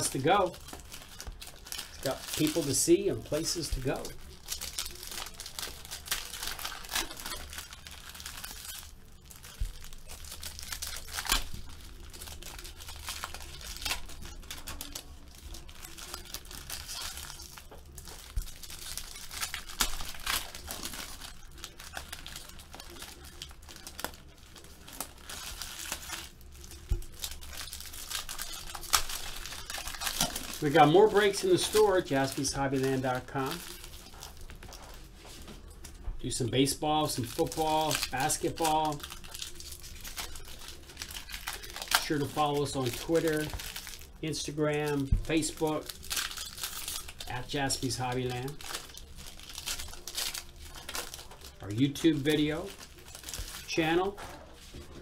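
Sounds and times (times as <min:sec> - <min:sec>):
card wrappers crinkling and tearing: 0:00.0 - 0:55.0.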